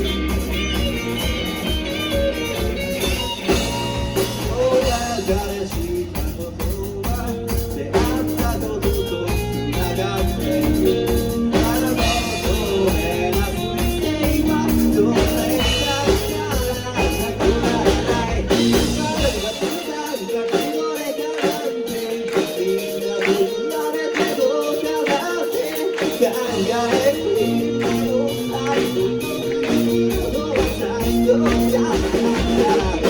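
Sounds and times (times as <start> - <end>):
rock song with singing: 0.0 - 33.0.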